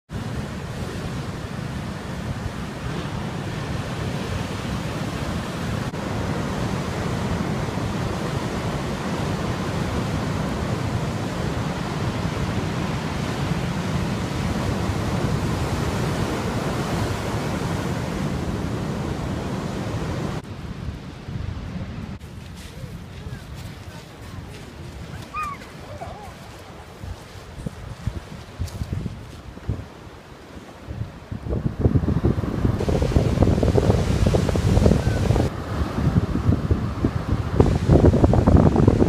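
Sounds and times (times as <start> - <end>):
wind rumbling on microphone: 0.1 - 39.0.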